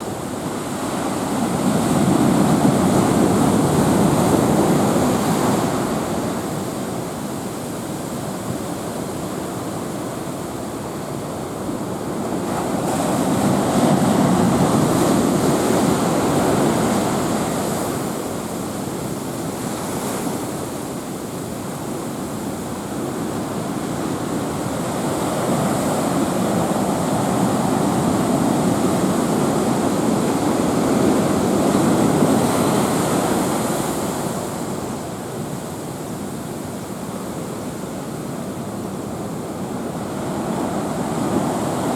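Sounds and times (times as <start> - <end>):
sea waves surging: 0.0 - 41.9.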